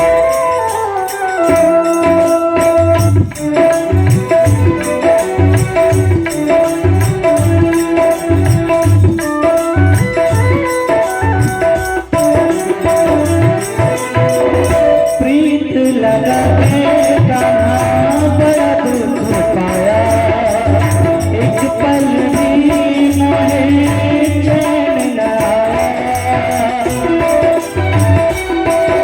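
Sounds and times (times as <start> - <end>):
jingling percussion: 0.0 - 29.0
sliding melody line: 0.0 - 29.0
drum beat: 1.4 - 29.0.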